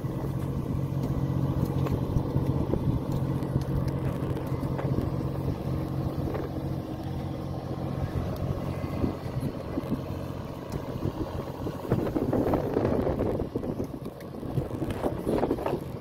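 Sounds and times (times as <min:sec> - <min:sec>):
boat machinery droning: 0:00.0 - 0:16.0.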